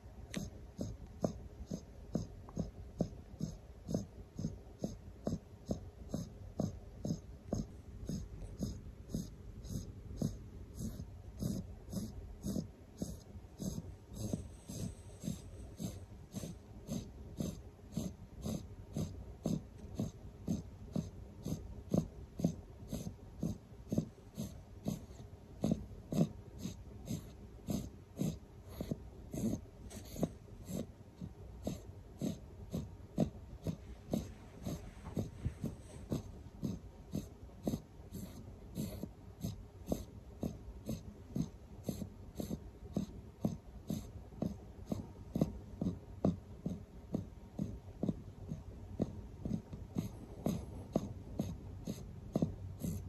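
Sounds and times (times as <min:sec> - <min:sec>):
puppy snuffling breaths: 0:00.2 - 0:53.0.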